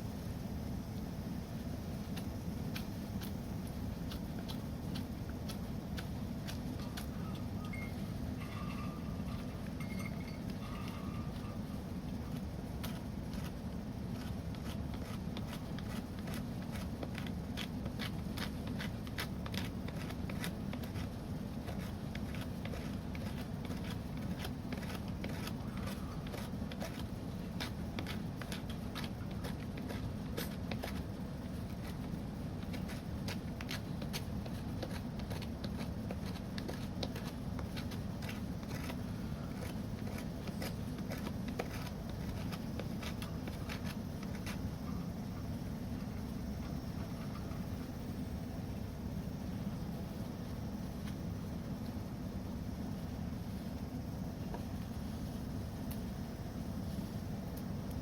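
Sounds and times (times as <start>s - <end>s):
fire low rumble: 9.0s - 58.0s.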